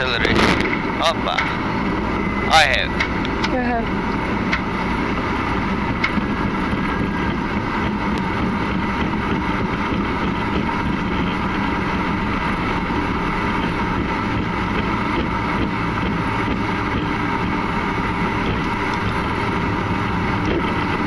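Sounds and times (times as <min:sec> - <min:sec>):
airliner engine and airflow noise: 0:00.0 - 0:21.0
faint steady whine: 0:00.0 - 0:21.0.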